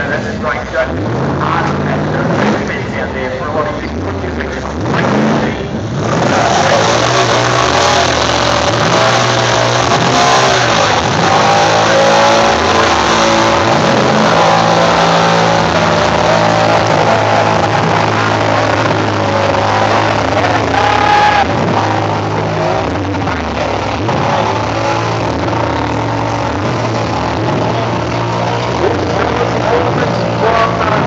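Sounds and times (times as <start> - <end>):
car engine revving high: 0.0 - 31.0
spinning tyres hissing: 5.5 - 30.9.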